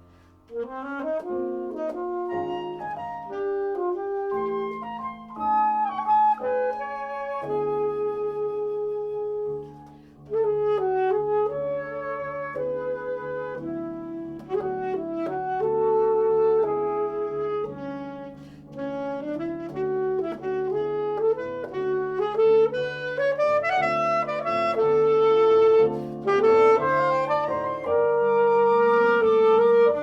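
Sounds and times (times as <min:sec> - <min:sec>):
alto saxophone: 0:00.0 - 0:30.0
recorded accompaniment: 0:00.0 - 0:30.0
flute: 0:00.5 - 0:30.0.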